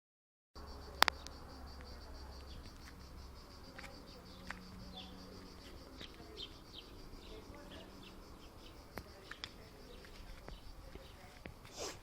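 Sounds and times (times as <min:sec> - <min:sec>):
insects trilling: 0:00.6 - 0:12.0.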